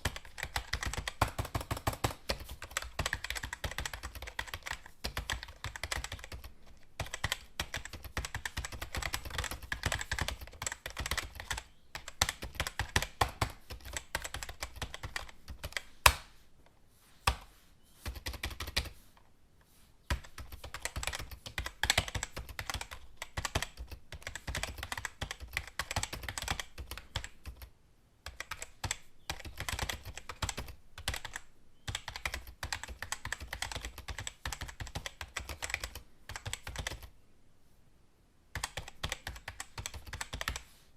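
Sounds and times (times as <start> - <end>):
typing on computer keyboard: 0.0 - 16.2, 18.0 - 18.9, 20.1 - 37.1, 38.6 - 40.7.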